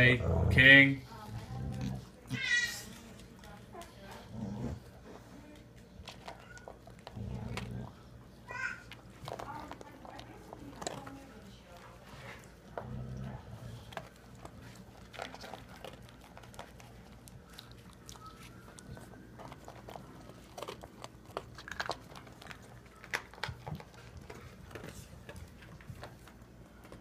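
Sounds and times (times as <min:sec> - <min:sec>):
dogs crunching dry kibble: 0:00.0 - 0:27.0.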